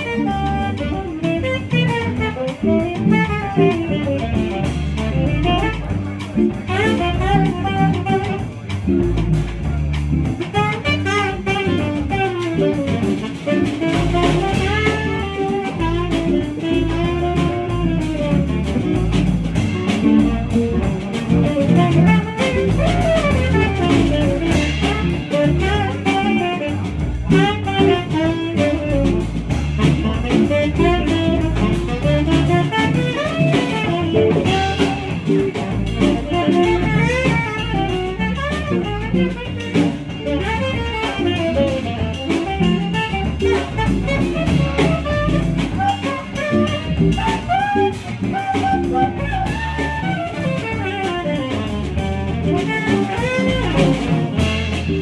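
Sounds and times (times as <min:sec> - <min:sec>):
drums keeping time: 0:00.0 - 0:55.0
jazz guitar melody: 0:00.0 - 0:55.0
walking bass line: 0:00.0 - 0:55.0.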